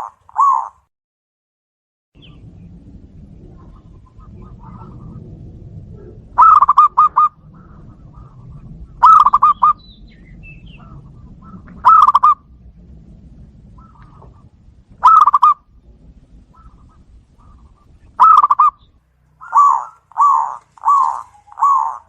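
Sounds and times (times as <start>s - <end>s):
dove cooing: 0.0s - 0.8s, 3.3s - 12.7s, 13.7s - 22.0s.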